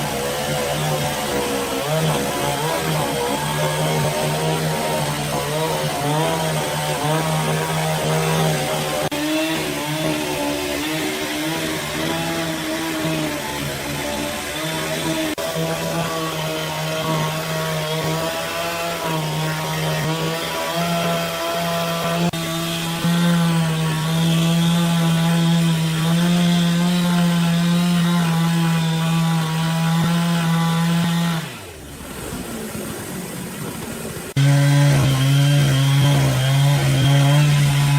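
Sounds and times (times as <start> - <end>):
power saw cutting wood: 0.0 - 37.9.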